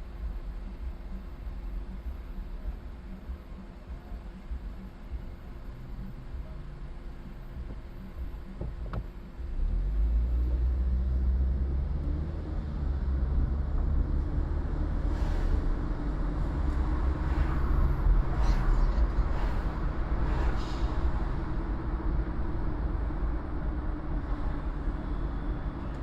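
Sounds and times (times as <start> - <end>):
vehicle road noise drone: 0.0 - 26.0.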